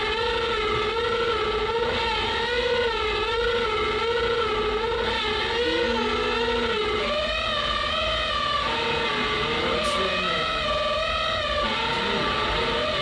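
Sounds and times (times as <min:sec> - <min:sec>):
warbling drone of pitched tones: 0:00.0 - 0:13.0.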